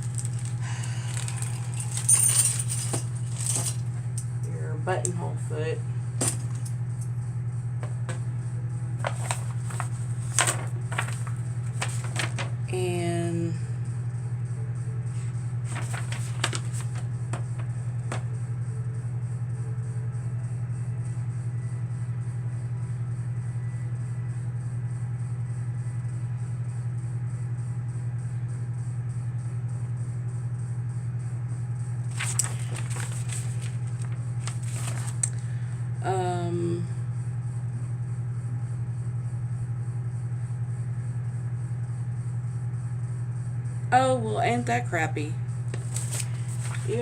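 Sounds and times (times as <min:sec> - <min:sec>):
pulsing machine hum: 0:00.0 - 0:47.0.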